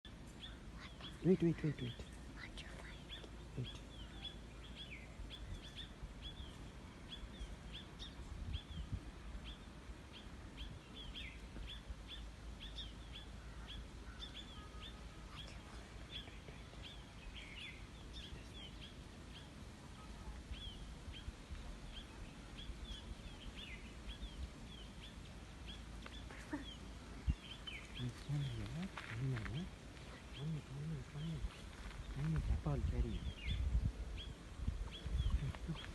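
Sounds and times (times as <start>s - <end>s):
low steady rumble: 0.0s - 35.9s
small birds chirping: 0.0s - 35.9s.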